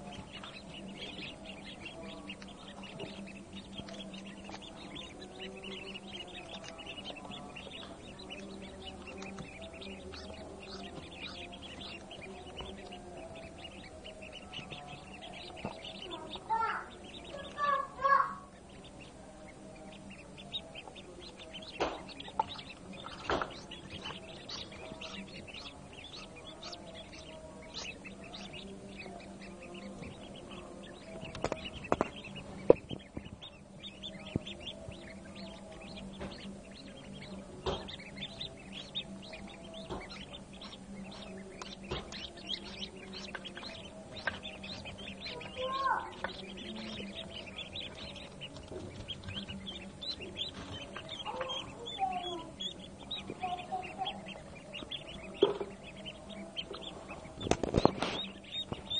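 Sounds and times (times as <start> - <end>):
ducklings peeping: 0.0 - 58.9.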